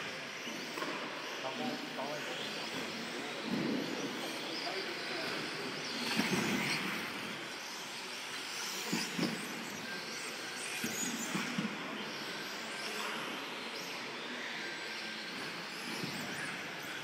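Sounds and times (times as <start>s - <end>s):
rc buggy motors whining: 0.0s - 17.0s.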